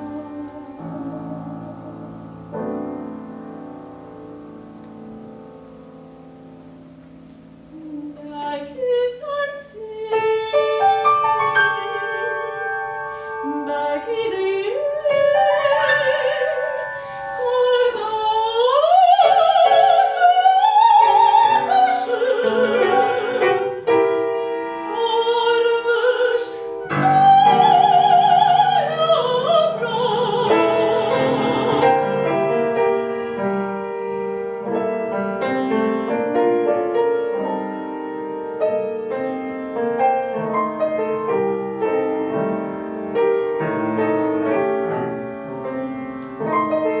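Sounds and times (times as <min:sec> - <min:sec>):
piano accompaniment: 0:00.0 - 0:47.0
soprano singing: 0:00.0 - 0:47.0.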